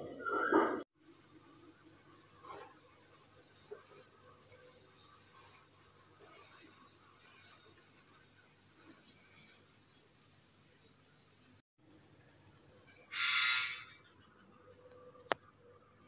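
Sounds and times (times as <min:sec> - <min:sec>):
gas burner hissing: 0:00.9 - 0:14.1.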